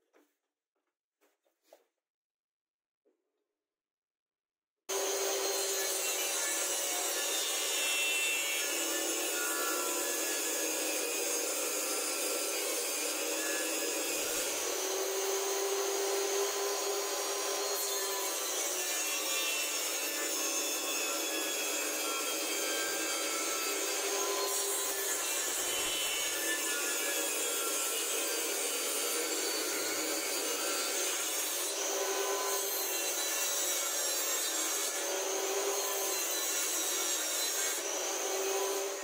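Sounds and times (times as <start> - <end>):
table saw cutting plywood: 4.9 - 39.0.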